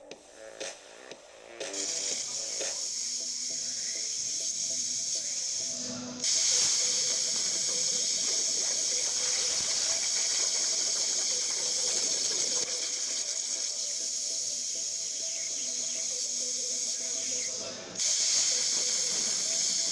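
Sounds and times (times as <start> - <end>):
plasma torch cutting steel hiss: 1.7 - 19.9.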